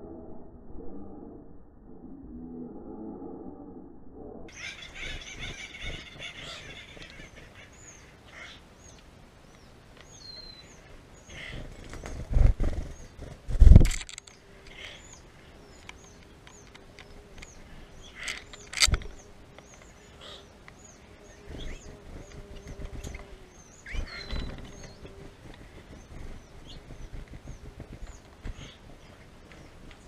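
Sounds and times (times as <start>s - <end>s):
small bird chirping: 4.5s - 30.0s.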